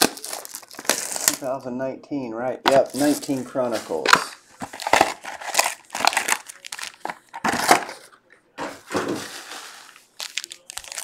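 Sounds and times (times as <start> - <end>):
foil packs crinkling: 0.0 - 1.5, 2.7 - 11.0.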